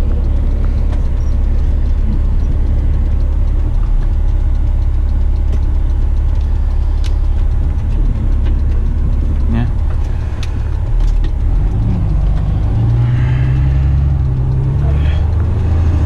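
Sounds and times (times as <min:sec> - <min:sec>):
diesel truck engine rumble: 0:00.0 - 0:16.0.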